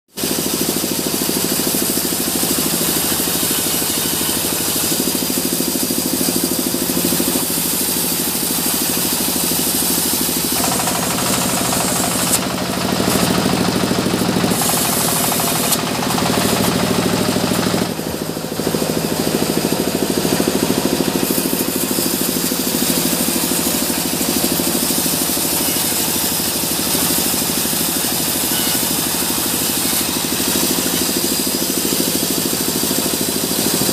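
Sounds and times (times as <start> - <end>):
band saw running: 0.1 - 33.9
saw blade cutting log: 0.2 - 33.9.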